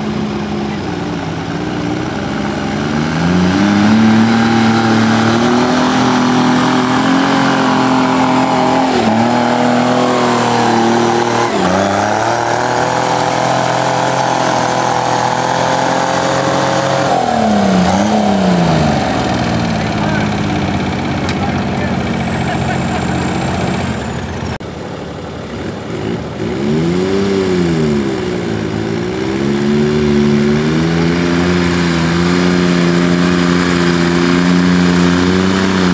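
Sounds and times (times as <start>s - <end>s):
diesel tractor engine under load: 0.0s - 35.9s.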